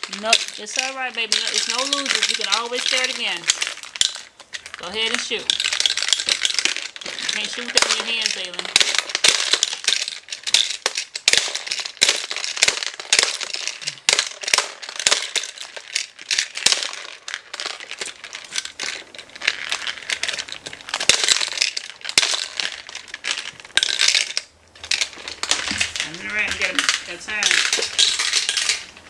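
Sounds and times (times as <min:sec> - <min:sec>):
crinkly rustling: 0:00.0 - 0:29.0
plastic toy pieces clattering: 0:00.0 - 0:29.0.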